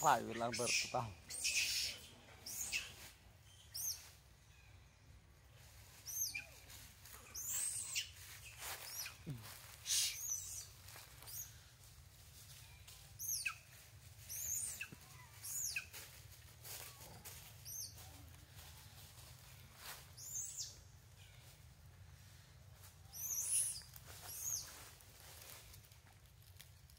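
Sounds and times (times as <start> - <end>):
birds chirping: 0.0 - 11.9, 12.5 - 24.8.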